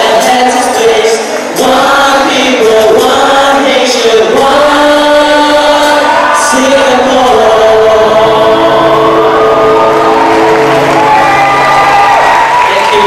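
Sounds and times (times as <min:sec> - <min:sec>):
acoustic guitar: 0:00.0 - 0:13.0
keyboard: 0:00.0 - 0:13.0
voices singing: 0:00.0 - 0:13.0.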